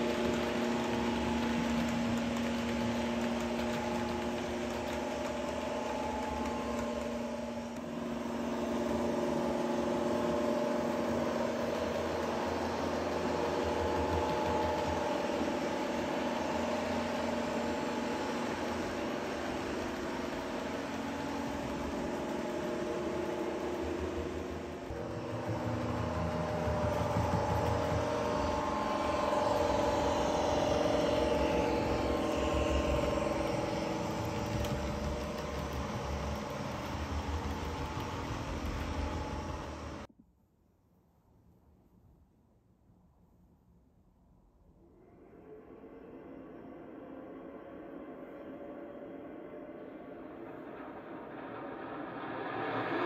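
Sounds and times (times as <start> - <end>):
model train hum and whine: 0.0 - 40.1, 44.8 - 53.0.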